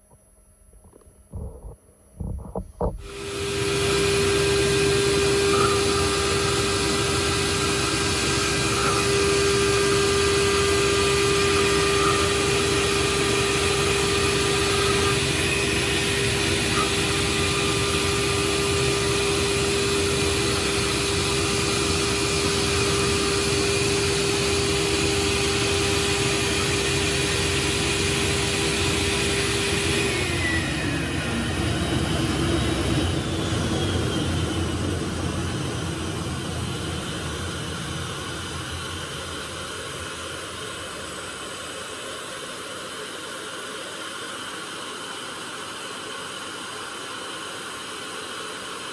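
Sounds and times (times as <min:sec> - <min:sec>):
router spindle whine: 0:00.0 - 0:48.9.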